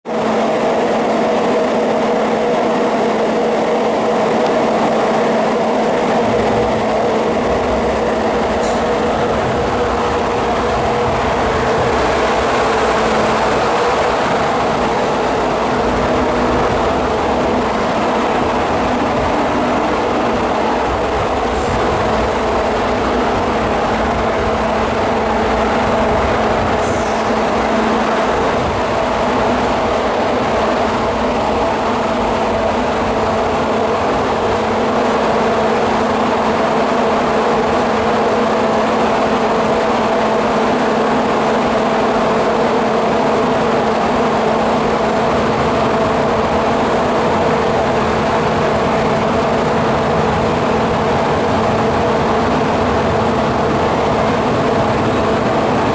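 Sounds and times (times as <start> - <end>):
metro train hum and rumble: 0.0 - 55.9.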